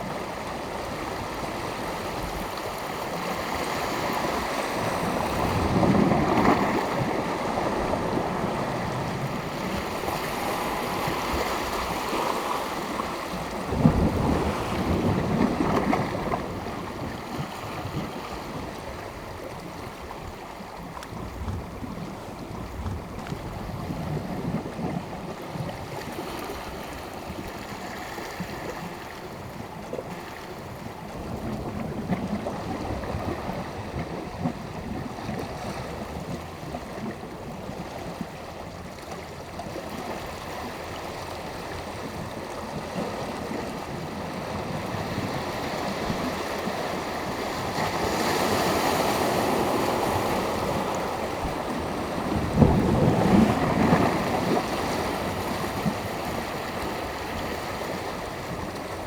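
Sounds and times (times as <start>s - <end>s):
wind on microphone: 0.0s - 39.0s, 39.6s - 59.0s
sea waves washing onto shore: 0.0s - 59.0s.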